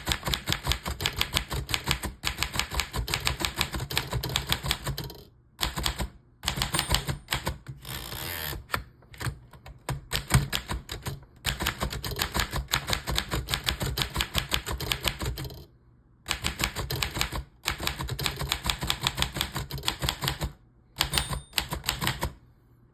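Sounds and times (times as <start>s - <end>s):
typewriter keys clacking: 0.0s - 7.6s, 9.2s - 15.7s, 16.3s - 22.3s.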